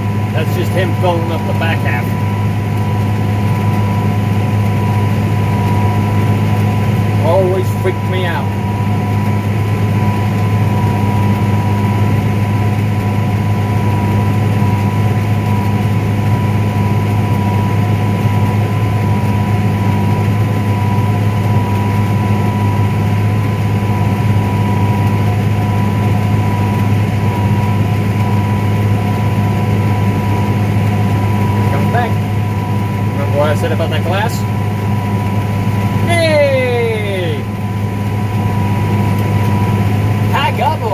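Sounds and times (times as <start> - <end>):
combine harvester engine drone: 0.0 - 40.9
thin steady whine: 0.0 - 40.9.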